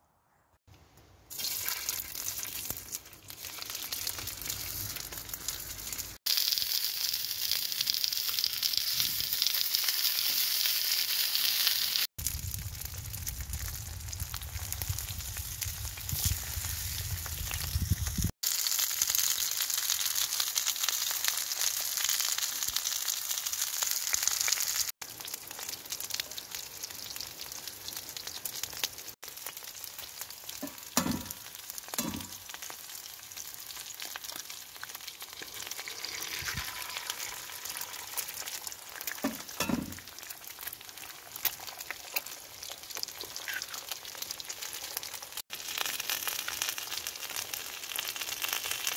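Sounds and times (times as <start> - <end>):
food sizzling in fat: 1.3 - 48.9.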